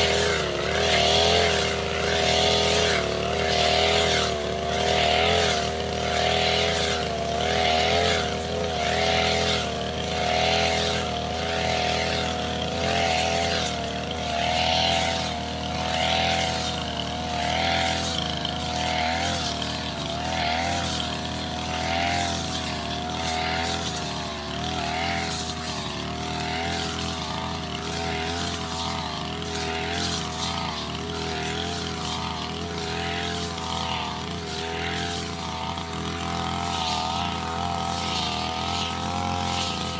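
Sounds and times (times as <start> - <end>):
blade hissing through grass: 0.0 - 39.9
brush cutter engine running: 0.0 - 39.9.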